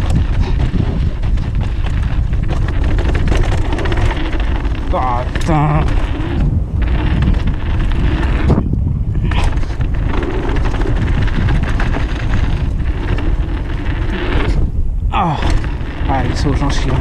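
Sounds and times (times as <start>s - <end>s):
bike knocks and rattles: 0.0s - 17.0s
tyres rolling over dirt: 0.0s - 17.0s
wind buffeting microphone: 0.0s - 17.0s.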